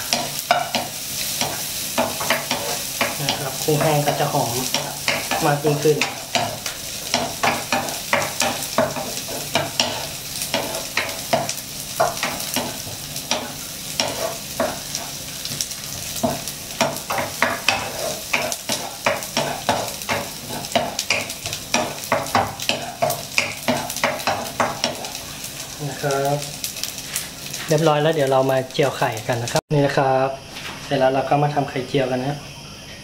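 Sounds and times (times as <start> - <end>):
spatula scraping wok: 0.0 - 28.0
shrimp sizzling in oil: 0.0 - 32.9.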